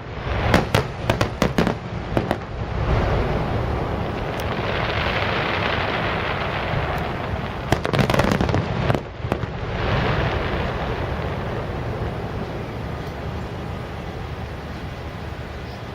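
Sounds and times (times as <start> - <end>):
aerial fireworks bursting: 0.0 - 15.4
fireworks crackle: 0.0 - 15.9.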